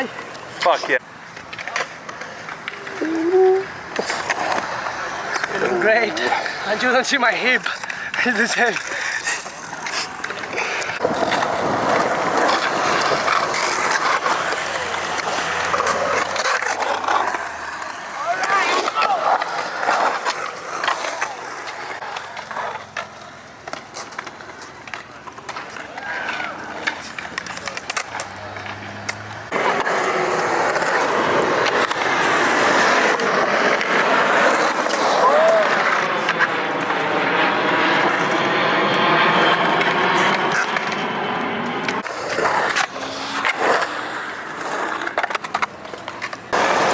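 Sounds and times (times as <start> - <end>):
skateboard wheels rolling on concrete: 0.0 - 46.9
skateboard clacks: 1.3 - 37.1, 37.9 - 46.9.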